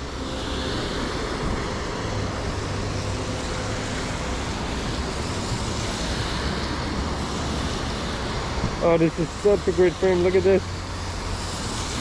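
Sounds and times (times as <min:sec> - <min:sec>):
steady rain hiss: 0:00.0 - 0:12.0
wet road traffic rumble: 0:00.0 - 0:12.0.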